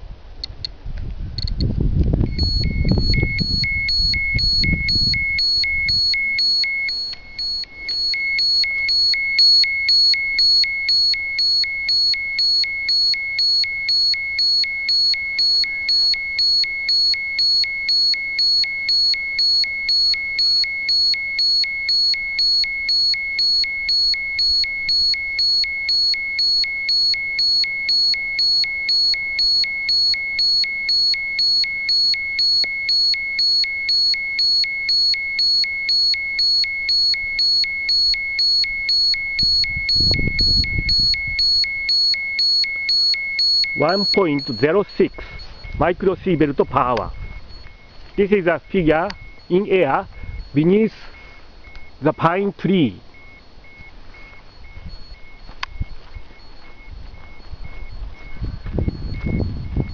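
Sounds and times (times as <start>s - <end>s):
high-pitched dosimeter beeping: 1.4s - 59.9s.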